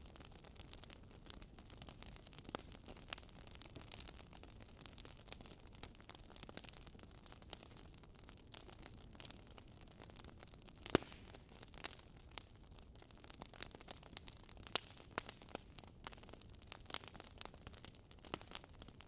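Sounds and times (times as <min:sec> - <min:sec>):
firewood crackling and popping: 0:00.0 - 0:19.0.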